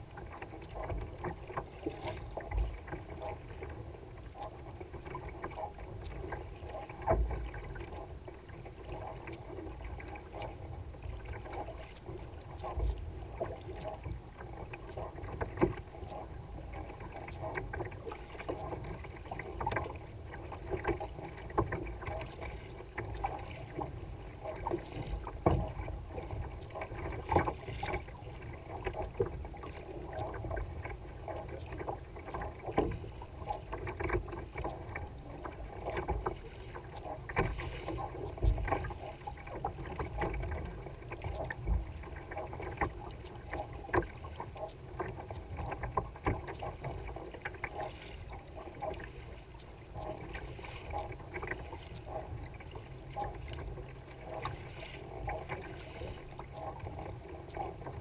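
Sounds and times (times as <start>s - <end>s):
paddle strokes splashing: 0.0s - 58.0s
water lapping against hull: 0.0s - 58.0s.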